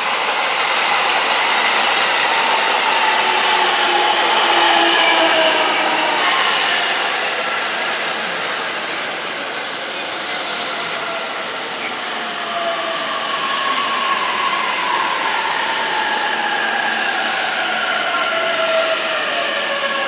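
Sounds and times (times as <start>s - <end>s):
train rumbling past: 0.0s - 20.0s
train whining tones: 0.0s - 20.0s.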